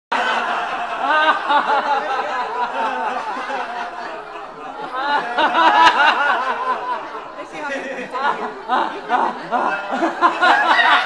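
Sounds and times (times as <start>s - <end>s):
group of people laughing: 0.1s - 11.0s.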